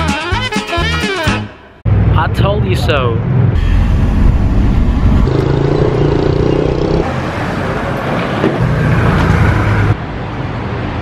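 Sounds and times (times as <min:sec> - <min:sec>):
car engines running: 0:01.9 - 0:11.0.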